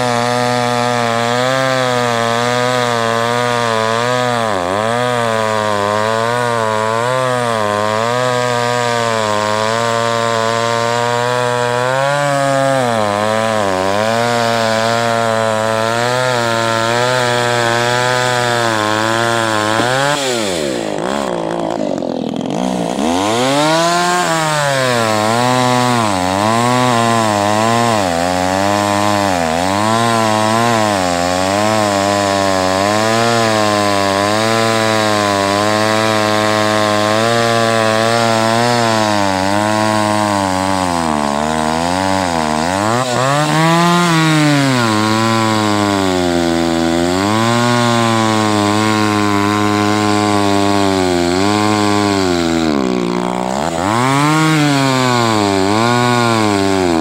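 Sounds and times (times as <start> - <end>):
chainsaw cutting through log: 0.0 - 57.0.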